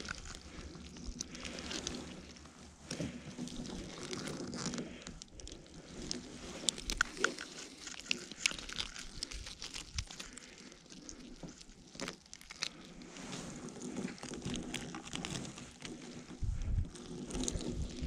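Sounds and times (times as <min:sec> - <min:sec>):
net mesh rustling and snapping: 0:00.0 - 0:18.0.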